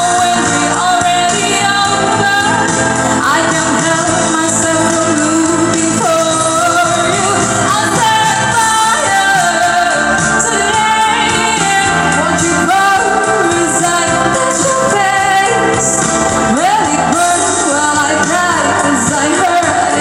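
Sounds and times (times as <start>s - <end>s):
backing music: 0.0s - 20.0s
person singing pop song: 0.0s - 20.0s.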